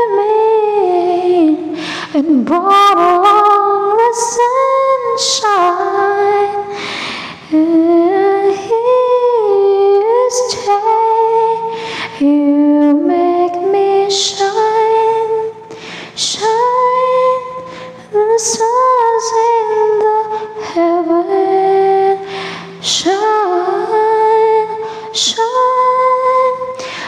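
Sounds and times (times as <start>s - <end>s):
woman singing unaccompanied: 0.0s - 27.0s.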